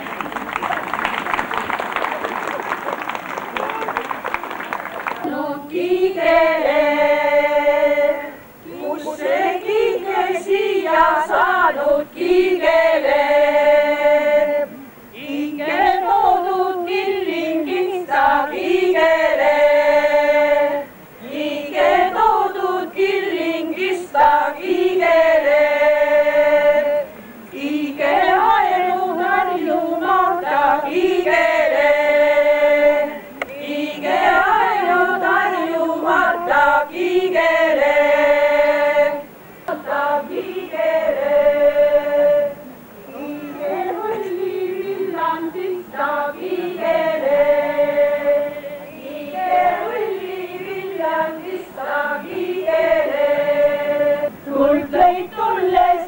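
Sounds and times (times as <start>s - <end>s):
women's choir singing unaccompanied: 4.1s - 56.0s.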